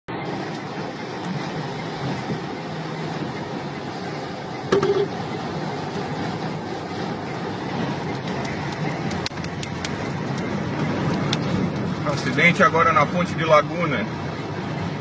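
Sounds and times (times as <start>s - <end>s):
strong wind: 0.1s - 12.3s
road traffic noise: 0.1s - 15.0s.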